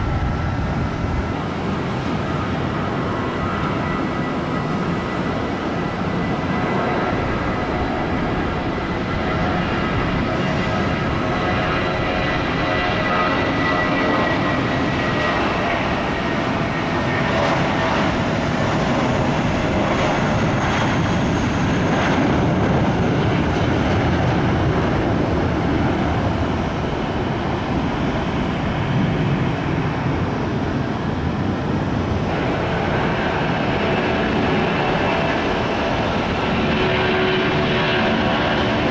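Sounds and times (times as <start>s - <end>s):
aircraft engines running: 0.0s - 38.9s.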